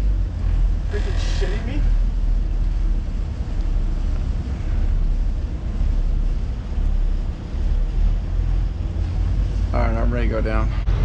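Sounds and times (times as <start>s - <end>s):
boat engine rumbling: 0.0s - 11.0s
wind buffeting microphone: 0.0s - 11.0s.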